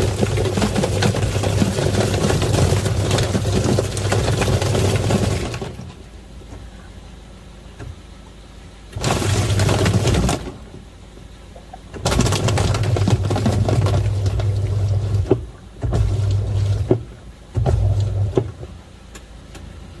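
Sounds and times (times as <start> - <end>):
washing machine churning water: 0.0 - 20.0
washing machine motor humming: 0.0 - 20.0.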